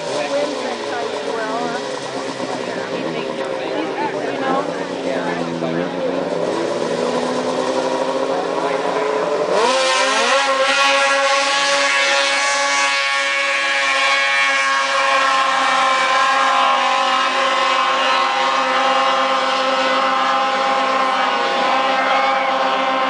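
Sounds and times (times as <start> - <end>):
snowmobile engines revving: 0.0 - 23.0.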